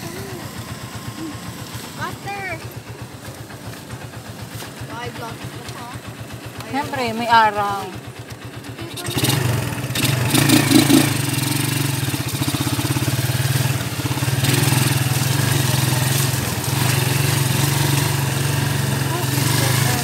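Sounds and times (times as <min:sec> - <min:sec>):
vehicle engine on dirt road: 0:00.0 - 0:20.0.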